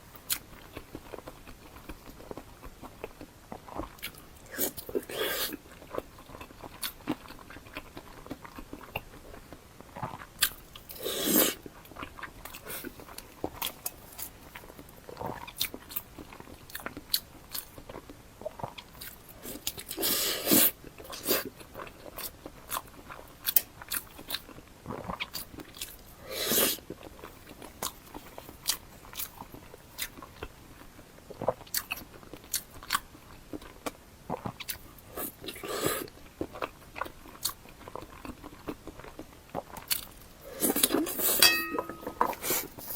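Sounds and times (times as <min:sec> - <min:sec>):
wet chewing and mouth smacks: 0:00.1 - 0:26.1, 0:26.8 - 0:42.9.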